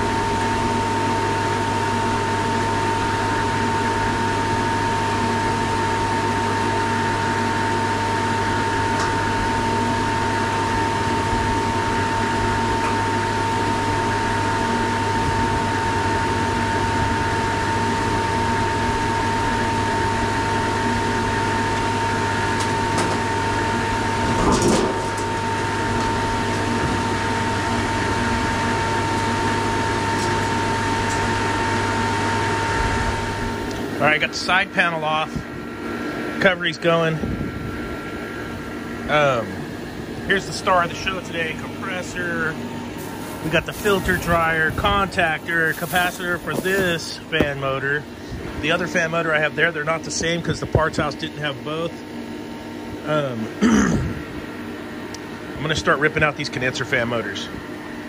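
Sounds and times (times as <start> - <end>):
machine motor drone with whine: 0.0 - 58.0.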